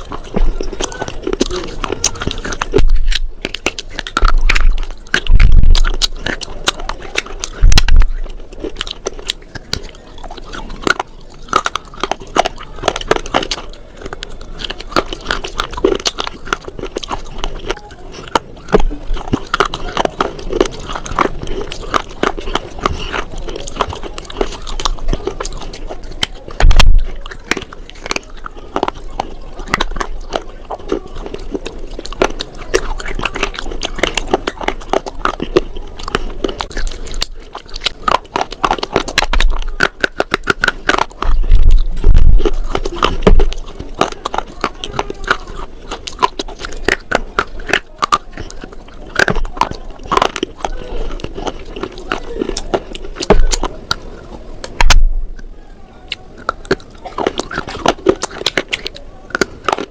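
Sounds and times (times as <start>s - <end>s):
chewing crunching slate: 0.0s - 59.9s.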